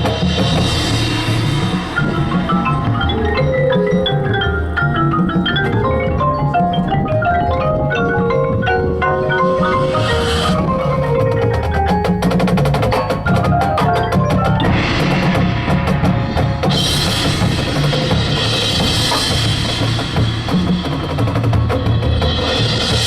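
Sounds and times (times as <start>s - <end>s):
pitched percussion: 0.0s - 23.0s
snare and bass drums: 0.0s - 23.0s.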